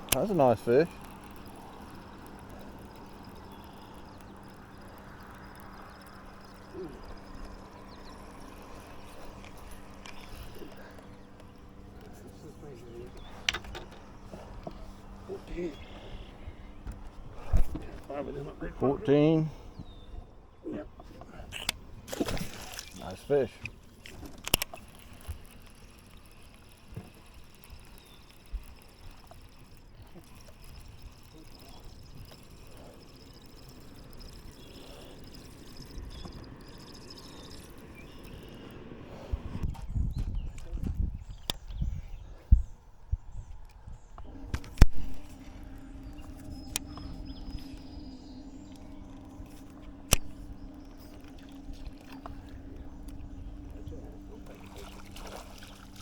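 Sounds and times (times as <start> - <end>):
sharp clicks: 0.0 - 18.1, 21.5 - 39.0, 43.5 - 56.0
boat low rumble: 0.0 - 56.0
steady low hum: 0.0 - 56.0.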